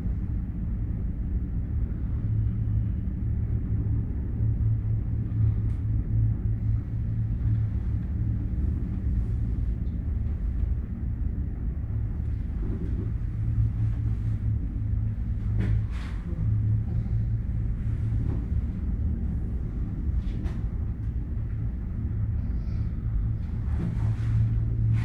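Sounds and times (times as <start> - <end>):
gondola cabin rumble and hum: 0.0 - 25.0.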